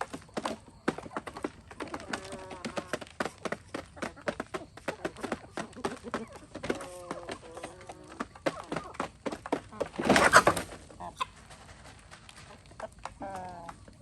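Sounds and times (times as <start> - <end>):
chicken clucking: 0.0 - 14.0
chickens pecking clicks: 0.0 - 14.0.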